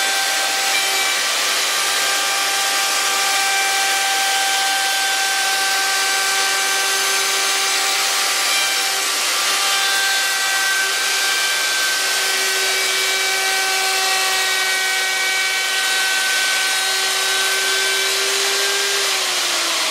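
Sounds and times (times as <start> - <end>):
router motor whining: 0.0 - 19.9.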